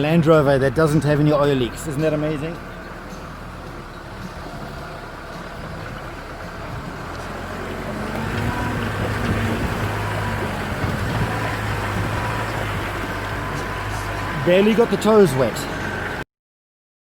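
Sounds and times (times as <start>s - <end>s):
vehicle engine running: 0.0s - 16.2s.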